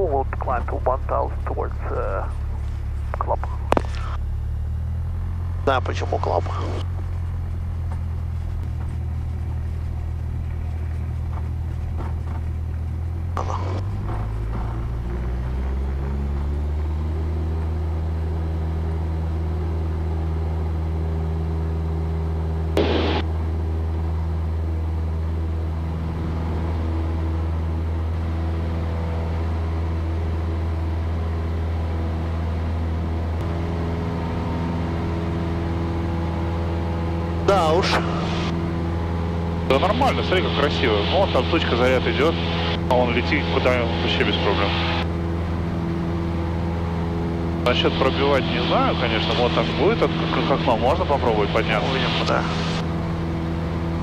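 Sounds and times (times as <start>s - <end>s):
propeller plane engine: 0.0s - 54.0s.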